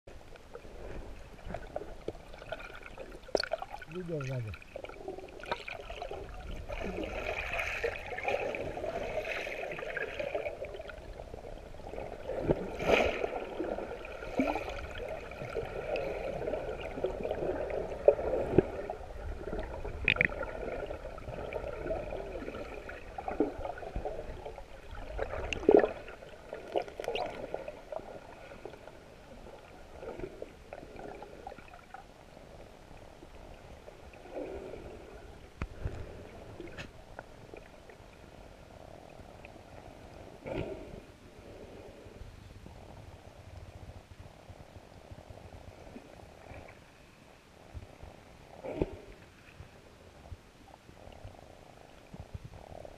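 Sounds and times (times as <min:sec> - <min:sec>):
underwater gurgling and sloshing: 0:00.1 - 0:52.9.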